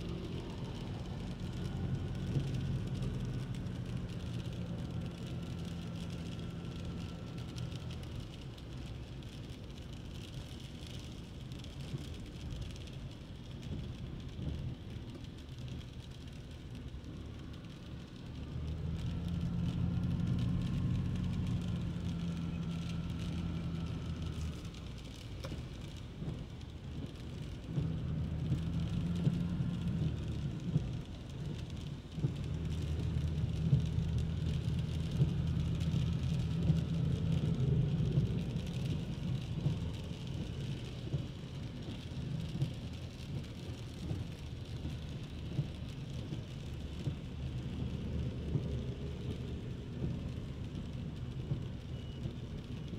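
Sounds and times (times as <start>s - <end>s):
rain hiss: 0.0s - 52.9s.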